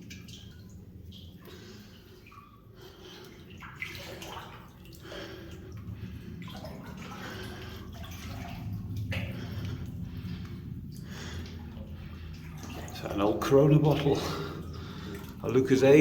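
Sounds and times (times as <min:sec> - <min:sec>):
water sloshing around wading legs: 0:00.0 - 0:16.0.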